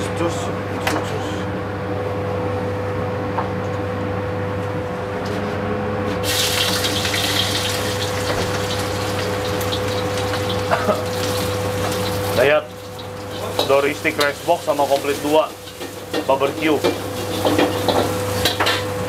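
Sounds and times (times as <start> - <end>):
kitchen range humming: 0.0 - 19.0.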